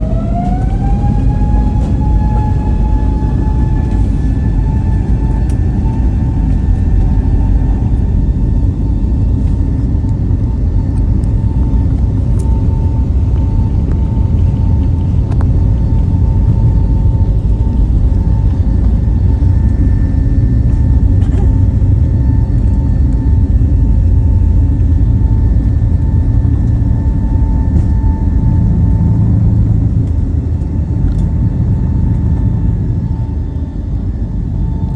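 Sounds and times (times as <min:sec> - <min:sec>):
jet engine high whine: 0:00.0 - 0:34.9
jet engine rumble: 0:00.0 - 0:34.9.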